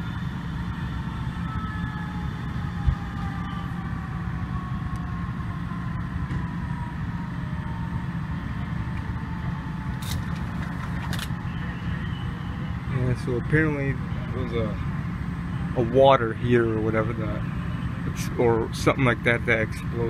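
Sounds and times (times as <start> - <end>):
large vehicle engine rumbling: 0.0 - 20.0.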